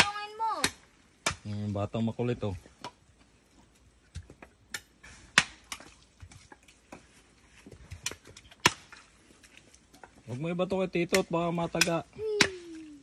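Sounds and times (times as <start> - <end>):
coconuts knocking and cracking: 0.0 - 9.1, 9.9 - 13.0.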